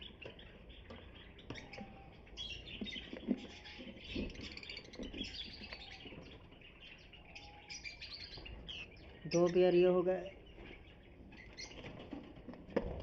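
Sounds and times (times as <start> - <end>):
lovebirds chirping: 0.0 - 12.6.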